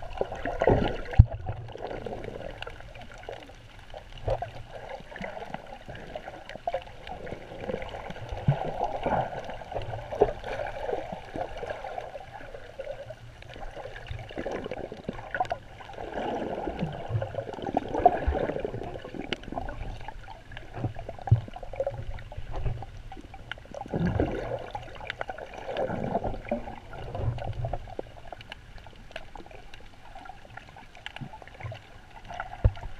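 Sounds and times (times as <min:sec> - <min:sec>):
underwater sloshing and gurgling: 0:00.0 - 0:32.9.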